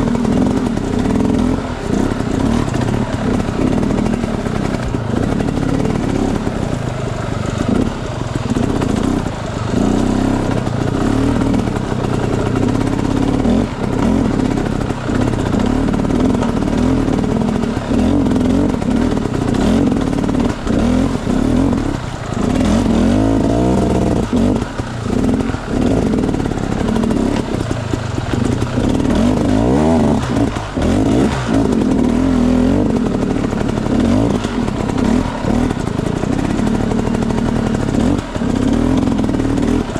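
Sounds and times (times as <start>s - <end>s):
bike clattering over rough ground: 0.0s - 39.9s
dirt bike engine revving: 0.0s - 39.9s.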